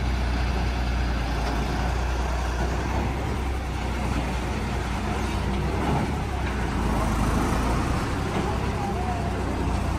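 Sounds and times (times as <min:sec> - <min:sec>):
excavator diesel engine running: 0:00.0 - 0:09.9.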